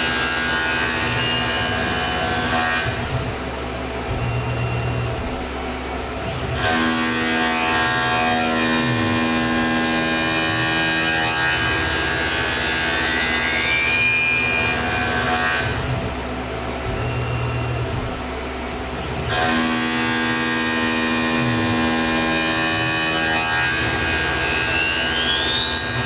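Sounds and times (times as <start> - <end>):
milling machine cutting metal: 0.0 - 26.0
spindle whine: 0.0 - 26.0.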